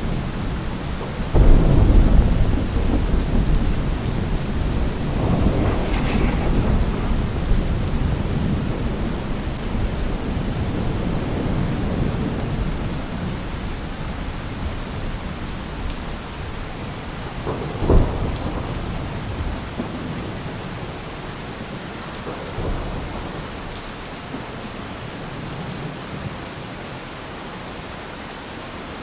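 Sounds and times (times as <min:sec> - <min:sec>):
rolling thunder: 0:00.0 - 0:24.6
heavy rain: 0:00.0 - 0:29.0.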